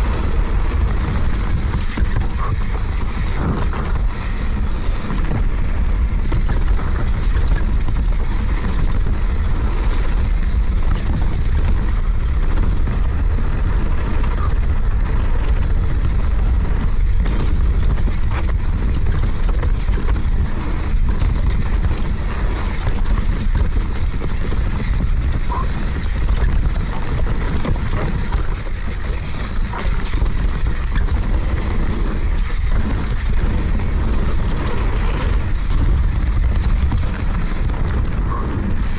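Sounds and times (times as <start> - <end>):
bike rattling: 0.0 - 38.9
bike tyres rolling over dirt: 0.0 - 38.9
wind rumble on microphone: 0.0 - 38.9.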